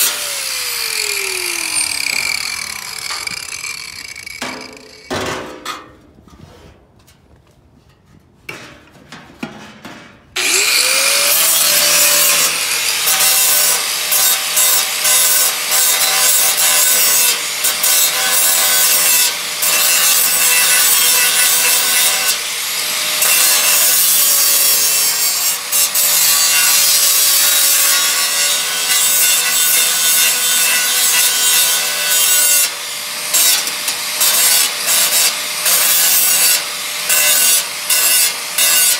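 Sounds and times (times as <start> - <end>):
power tool grinding sheet metal: 0.0 - 5.5, 10.4 - 38.9.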